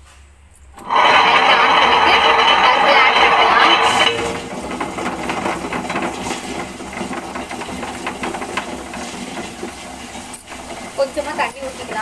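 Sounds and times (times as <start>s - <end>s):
stone rollers crunching and knocking: 0.8s - 12.0s
wet grinder running: 0.8s - 12.0s.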